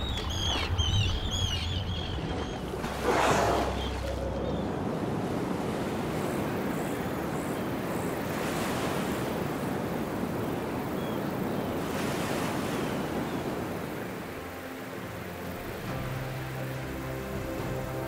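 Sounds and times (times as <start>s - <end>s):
ocean waves washing in: 0.0s - 17.2s.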